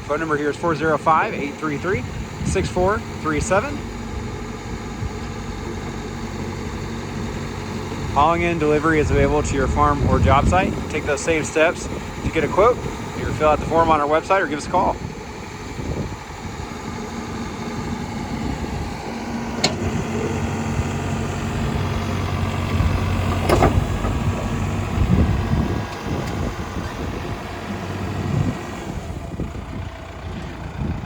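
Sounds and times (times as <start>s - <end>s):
backhoe diesel engine running: 0.0s - 31.0s.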